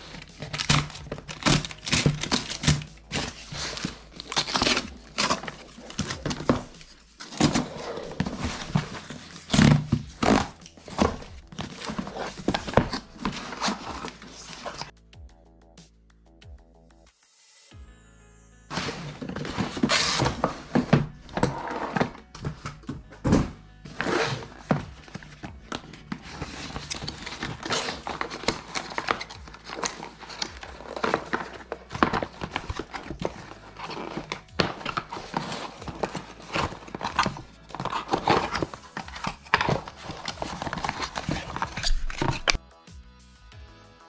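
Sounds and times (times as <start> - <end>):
background music: 0.0 - 44.0.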